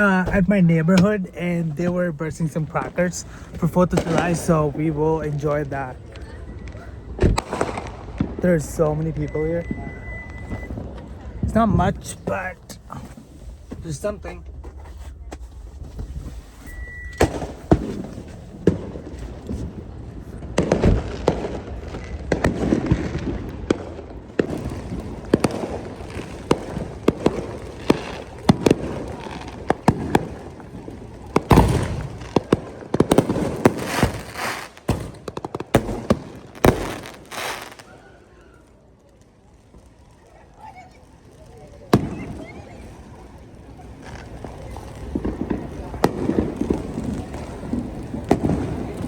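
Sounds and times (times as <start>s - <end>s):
firecrackers crackling: 0.0s - 49.0s
fireworks bangs and pops: 0.0s - 49.0s.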